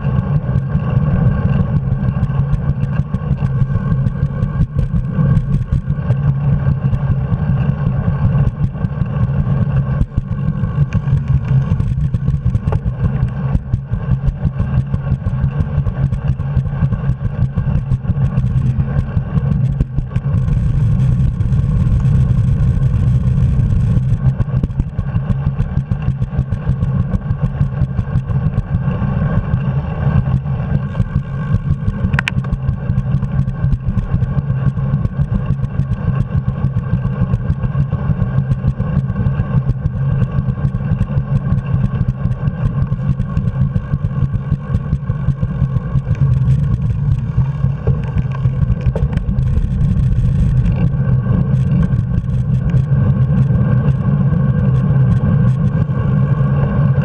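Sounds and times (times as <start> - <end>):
bicycle rattle and clicks: 0.0 - 57.0.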